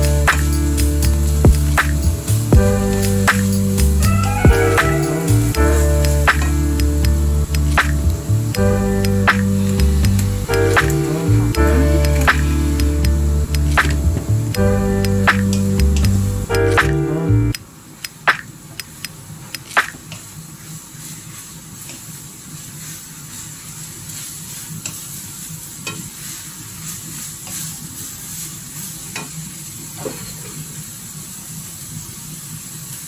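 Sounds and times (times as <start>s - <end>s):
food sizzling in a wok: 0.0s - 13.7s, 19.9s - 33.0s.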